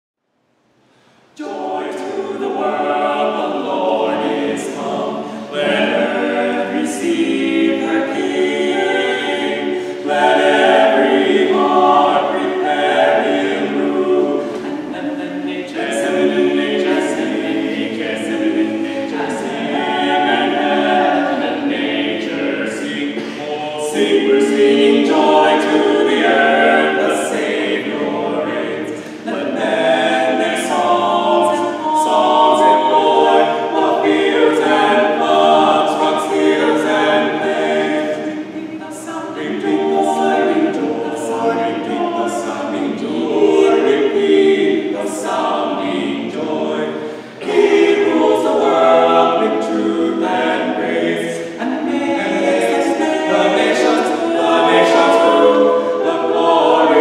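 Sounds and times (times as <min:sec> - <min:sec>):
a cappella group singing: 0:00.7 - 0:57.0.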